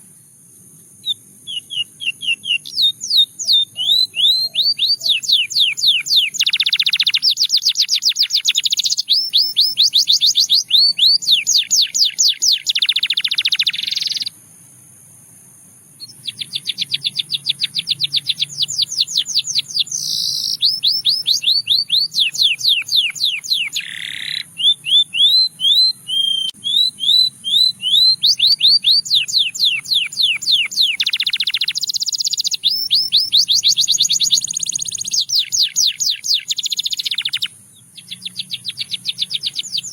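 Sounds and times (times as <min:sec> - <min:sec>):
canary singing trills: 0:01.0 - 0:14.3, 0:16.0 - 0:39.9.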